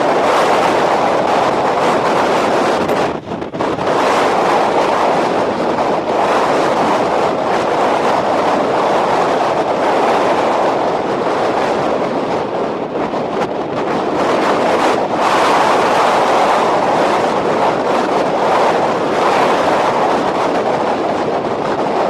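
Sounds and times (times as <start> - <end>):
strong wind rushing around vehicle: 0.0 - 22.0.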